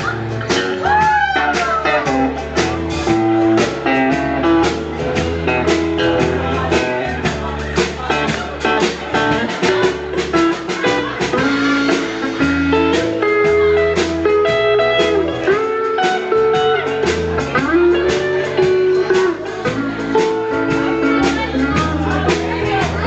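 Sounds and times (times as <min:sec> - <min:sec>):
deep bass notes: 0:00.0 - 0:23.0
drums: 0:00.0 - 0:23.0
electric guitar: 0:00.0 - 0:23.0
strummed acoustic guitar: 0:00.0 - 0:23.0.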